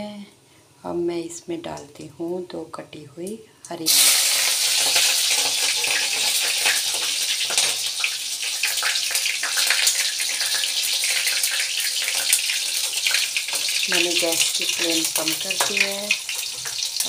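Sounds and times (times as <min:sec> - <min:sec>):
chillies sizzling in oil: 0:03.2 - 0:17.0.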